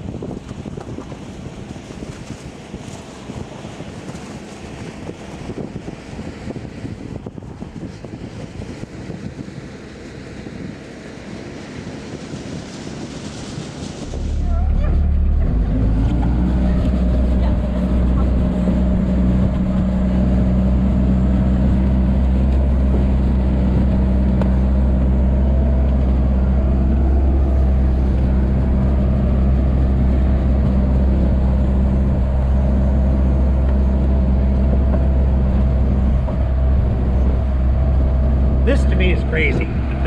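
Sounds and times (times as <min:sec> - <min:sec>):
diesel engine low drone: 0:00.0 - 0:40.0.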